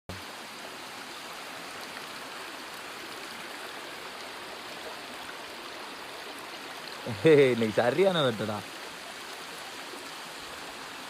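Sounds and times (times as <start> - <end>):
stream rushing: 0.1 - 11.0.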